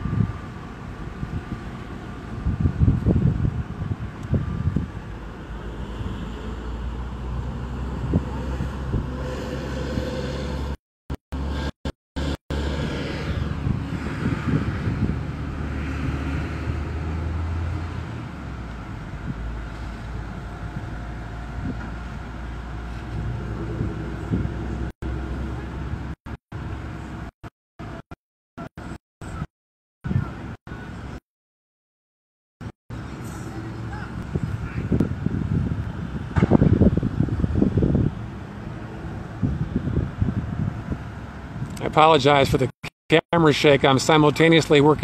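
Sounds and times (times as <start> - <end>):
heavy vehicle engines running: 0.0 - 28.0, 32.9 - 45.0
road traffic noise: 0.0 - 31.2, 32.6 - 45.0.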